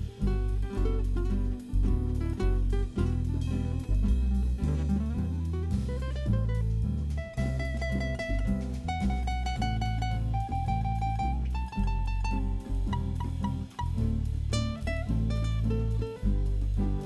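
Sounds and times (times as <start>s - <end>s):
held melody notes: 0.0s - 17.0s
steady bass line: 0.0s - 17.0s.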